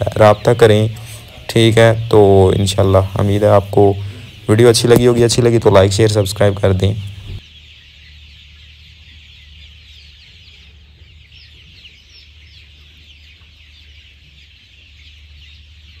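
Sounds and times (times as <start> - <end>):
chicks cheeping: 0.0 - 16.0.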